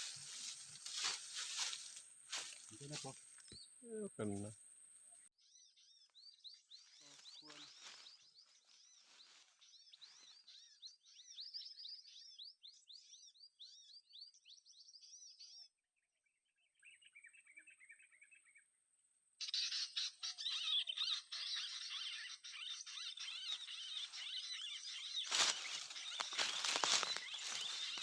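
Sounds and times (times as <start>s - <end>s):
small birds chirping: 0.0s - 18.6s, 19.4s - 28.0s.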